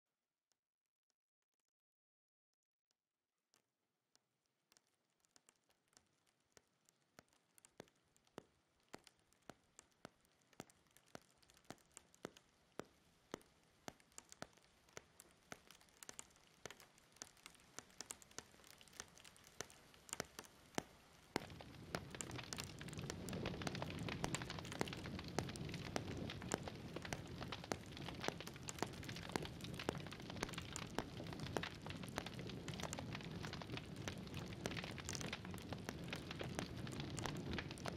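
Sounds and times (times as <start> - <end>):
crackle: 3.4 - 37.9
raindrops ticking: 4.7 - 37.9.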